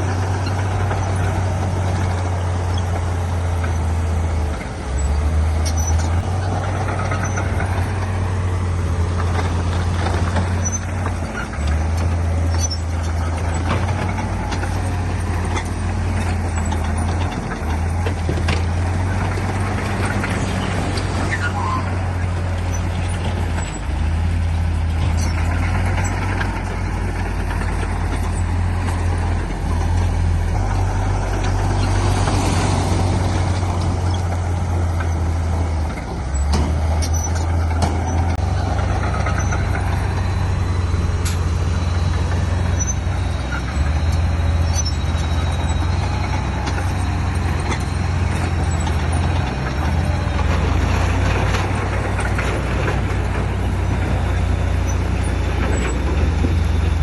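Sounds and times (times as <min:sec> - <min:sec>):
diesel machinery droning: 0:00.0 - 0:57.0.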